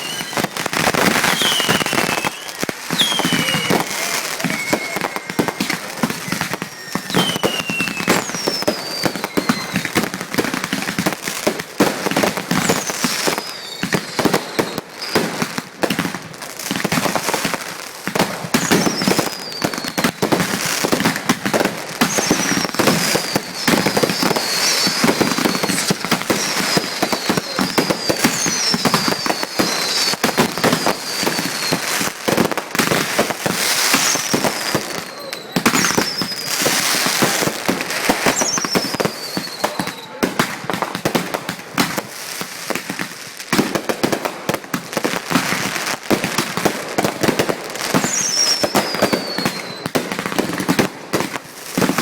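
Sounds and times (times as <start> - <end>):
falling firework whistles: 0.0 - 16.0, 18.2 - 41.2, 46.6 - 50.9
fireworks bangs and crackling: 0.0 - 52.0.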